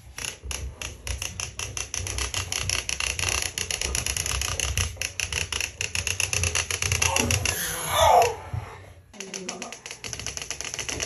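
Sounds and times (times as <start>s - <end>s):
wagon wheels rattling on wood floor: 0.0s - 8.4s, 9.1s - 11.0s.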